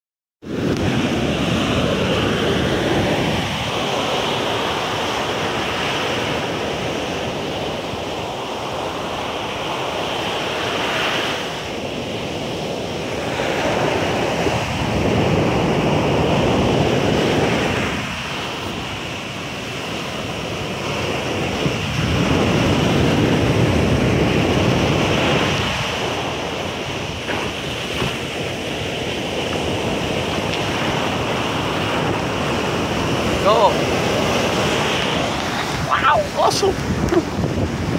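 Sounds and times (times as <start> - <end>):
surf breaking on beach: 0.4 - 37.9
wind on microphone: 0.4 - 37.9.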